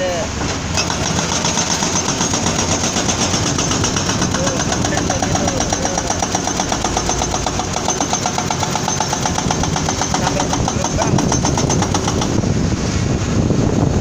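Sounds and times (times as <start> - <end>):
highway traffic rumble: 0.0 - 14.0
excavator diesel engine clatter: 0.4 - 12.4.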